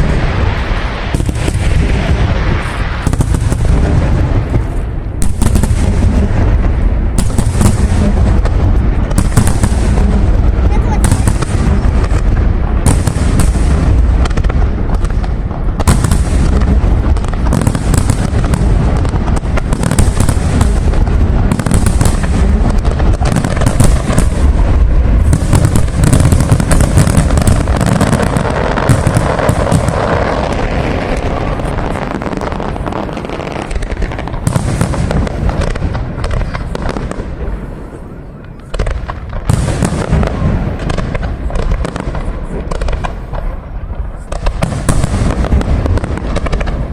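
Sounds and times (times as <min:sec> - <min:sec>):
fireworks booming: 0:00.0 - 0:46.9
fireworks crackling: 0:00.0 - 0:46.9.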